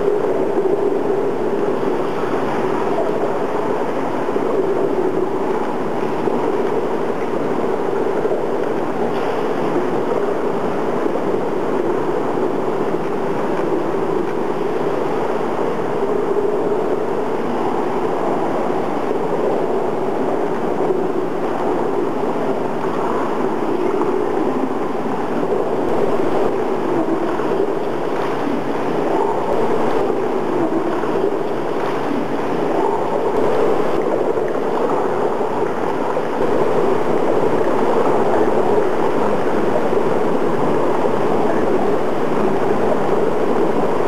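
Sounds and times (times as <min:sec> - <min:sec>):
steady rushing noise: 0:00.0 - 0:44.0.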